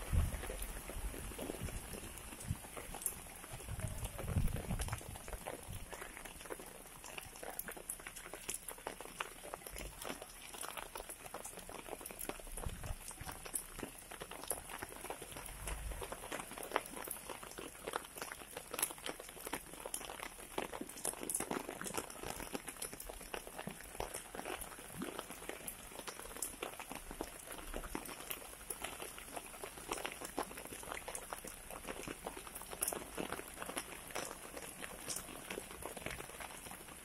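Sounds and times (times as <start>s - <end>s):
heavy rain on standing water: 0.0s - 37.0s.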